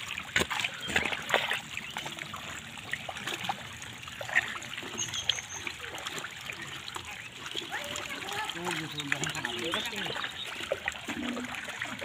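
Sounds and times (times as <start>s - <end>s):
water and mud splashing: 0.0s - 12.0s.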